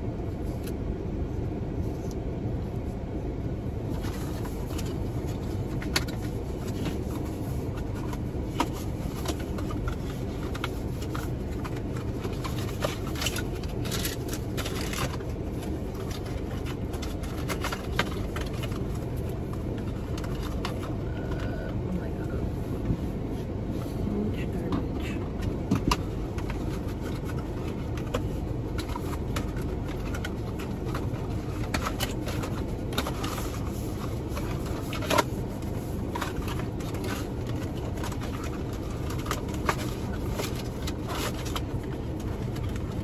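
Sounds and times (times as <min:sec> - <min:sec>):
car cabin hum: 0:00.0 - 0:43.0
packaging and tissue paper rustling: 0:03.9 - 0:21.7, 0:25.4 - 0:43.0.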